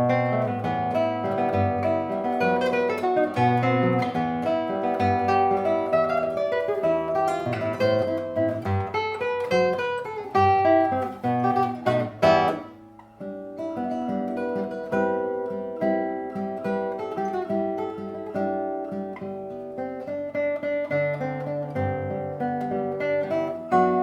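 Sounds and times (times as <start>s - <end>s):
solo guitar playing a waltz: 0.0s - 24.0s.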